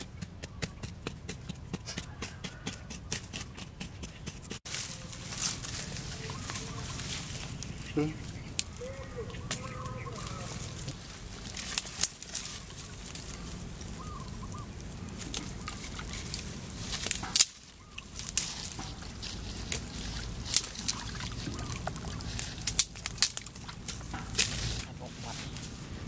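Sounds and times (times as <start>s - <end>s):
wood fire crackling and popping: 4.0s - 25.7s.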